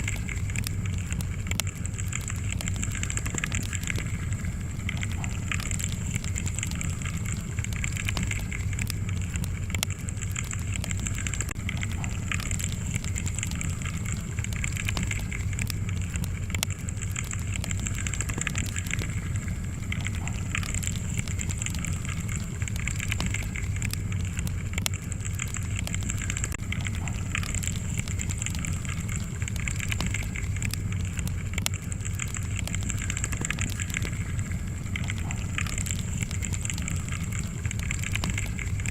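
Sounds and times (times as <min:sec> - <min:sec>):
fire crackling and popping: 0:00.0 - 0:38.9
low fire rumble: 0:00.0 - 0:38.9.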